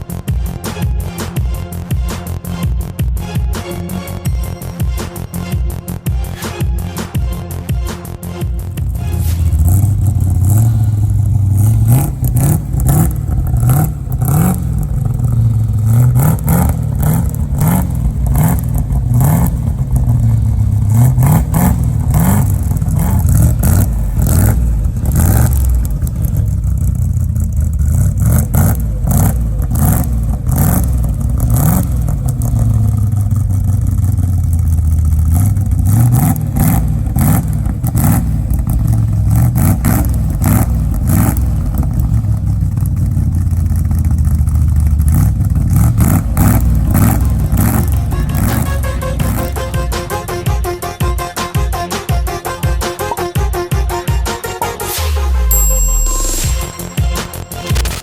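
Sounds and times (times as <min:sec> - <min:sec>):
car engine revving and idling: 0:00.0 - 0:53.3, 0:54.7 - 0:58.0.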